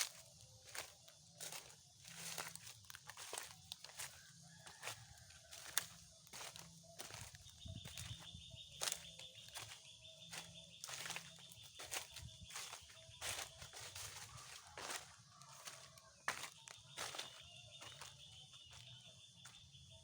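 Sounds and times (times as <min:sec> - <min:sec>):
footsteps on a path: 0:00.0 - 0:20.0.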